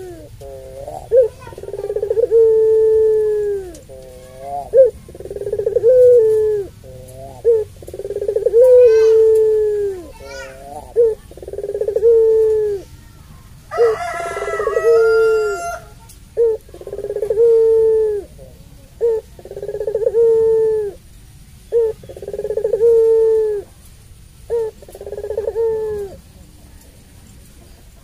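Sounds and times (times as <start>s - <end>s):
dove cooing: 0.0s - 12.9s, 13.7s - 27.0s.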